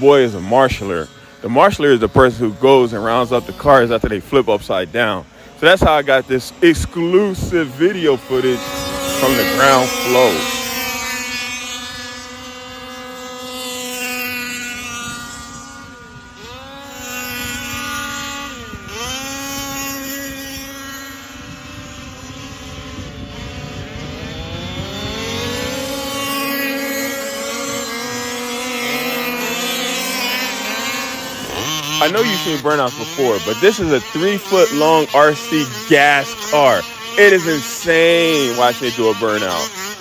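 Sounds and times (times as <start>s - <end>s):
two-stroke engines buzzing: 0.0s - 40.0s.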